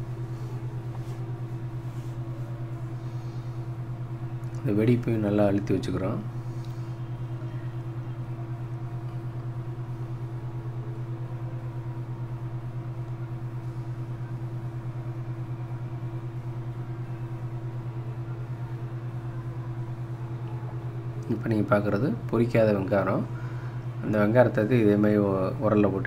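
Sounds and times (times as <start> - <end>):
machine humming with pulsing tone: 0.0 - 26.0.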